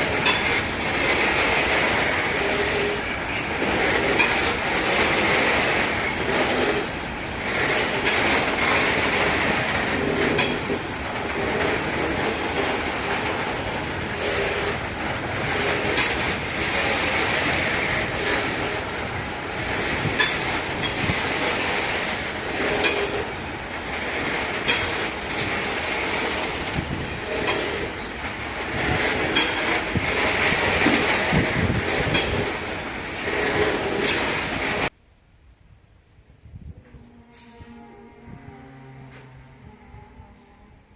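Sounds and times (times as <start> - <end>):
wheel clicks on rail joints: 0.0 - 34.9
freight train rumbling: 0.0 - 35.0, 35.8 - 40.9.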